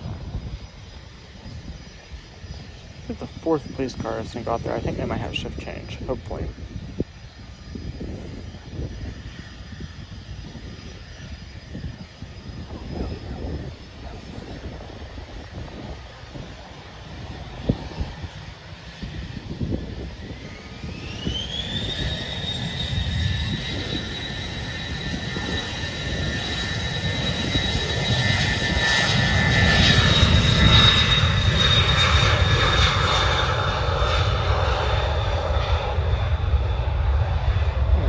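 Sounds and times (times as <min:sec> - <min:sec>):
jet engine whine: 0:00.0 - 0:38.0.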